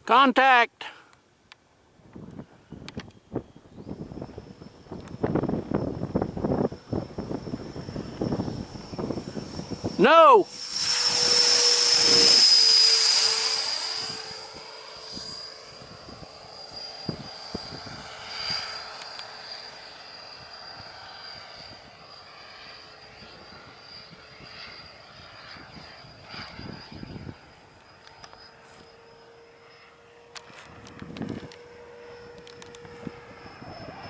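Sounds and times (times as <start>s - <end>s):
electric ducted fan whining: 1.5s - 34.0s.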